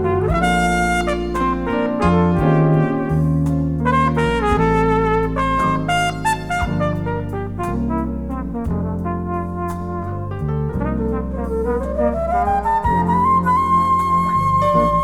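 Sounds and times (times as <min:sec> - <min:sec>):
jazz brass line: 0:00.0 - 0:15.0
steady bass line: 0:00.0 - 0:15.0.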